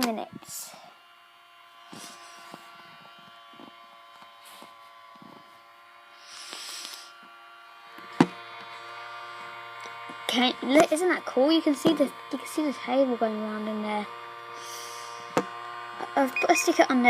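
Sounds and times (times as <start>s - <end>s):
turntable motor humming: 0.0s - 17.0s.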